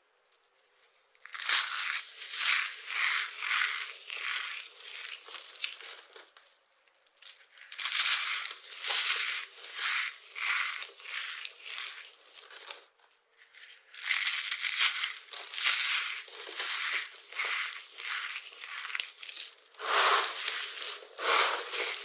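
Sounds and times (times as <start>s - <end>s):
dry soap crunching: 0.3s - 22.0s.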